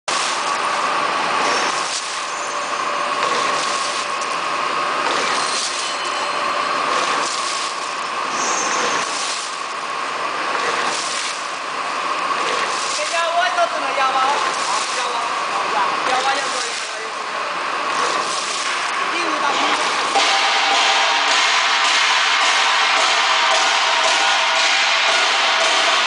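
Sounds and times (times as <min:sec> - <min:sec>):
machine whining and hissing: 0:00.1 - 0:26.0.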